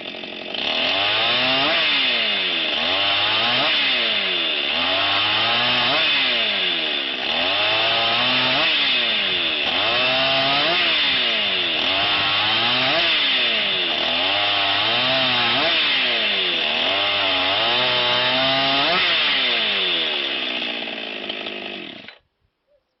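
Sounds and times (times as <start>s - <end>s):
chainsaw cutting wood: 0.0s - 22.3s.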